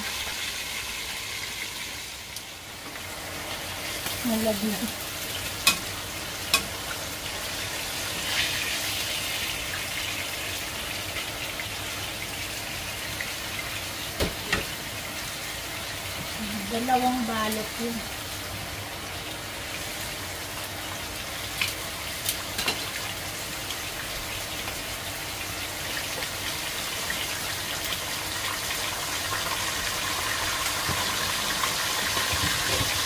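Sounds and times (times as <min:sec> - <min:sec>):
hot oil sizzling in a wok: 0:00.0 - 0:33.0.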